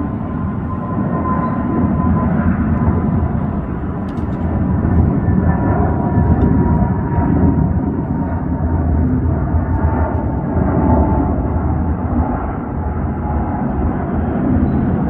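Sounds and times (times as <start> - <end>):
jet engine roar: 0.0 - 15.0
thin steady engine whine: 0.0 - 15.0.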